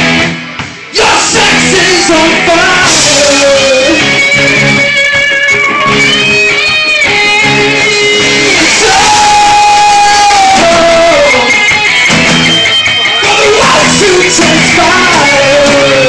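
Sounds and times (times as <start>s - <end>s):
live rock band playing: 0.0s - 16.0s
electric guitar held notes: 1.4s - 16.0s.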